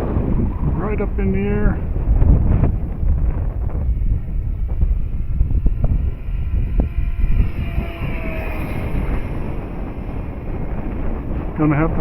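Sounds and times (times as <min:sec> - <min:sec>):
model plane electric motor whine: 0:00.0 - 0:12.0
wind buffeting microphone: 0:00.0 - 0:12.0.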